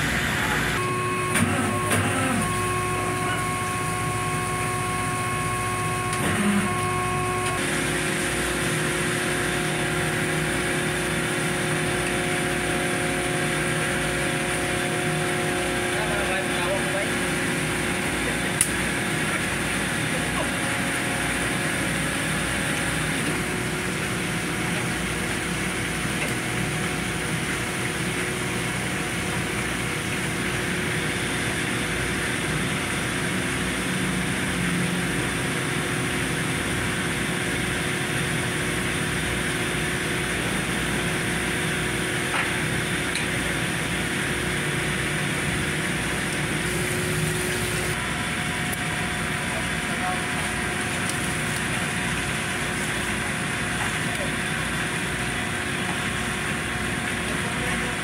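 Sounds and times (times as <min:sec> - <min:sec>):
machinery droning: 0:00.0 - 0:58.0.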